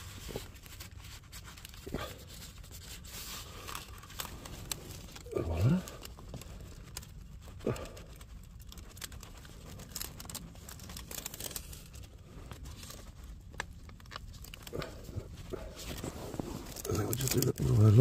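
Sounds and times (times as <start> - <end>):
pipe lagging crinkling and tearing: 0.0 - 18.0.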